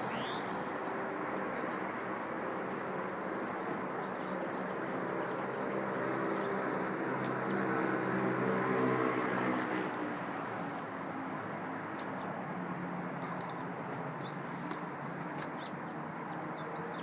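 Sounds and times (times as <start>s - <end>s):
urban traffic noise: 0.0s - 17.0s.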